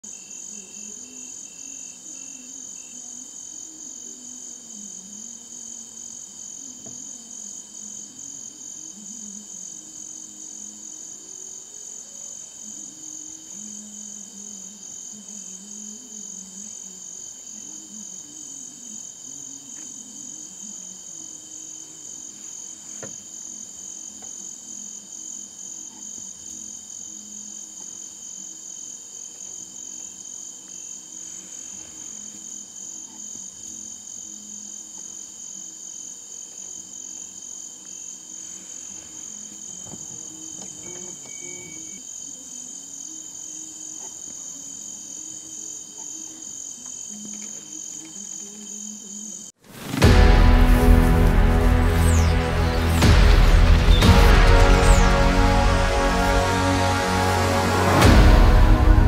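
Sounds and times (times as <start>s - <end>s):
insects trilling: 0.0s - 50.0s, 51.8s - 58.0s.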